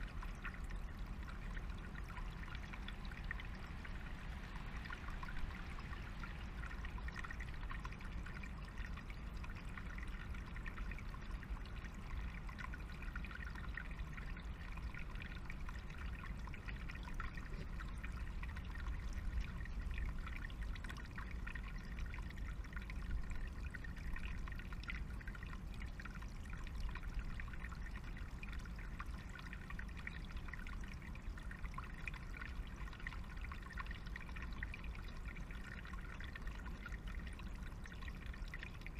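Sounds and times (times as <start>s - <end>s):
low steady rumble: 0.0s - 38.9s
stream trickling over stones: 0.0s - 38.9s.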